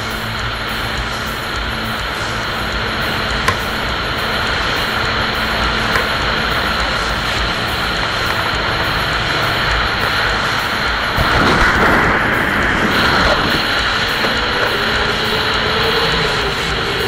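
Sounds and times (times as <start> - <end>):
car wind and road noise: 0.0 - 17.0.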